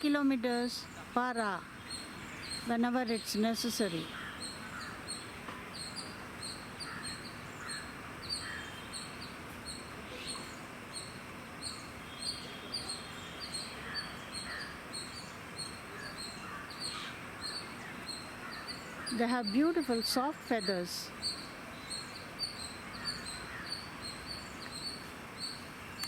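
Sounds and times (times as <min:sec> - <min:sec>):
fainter lower bird calls: 0:00.0 - 0:26.0
outdoor background noise: 0:00.0 - 0:26.0
small birds chirping: 0:00.0 - 0:26.0.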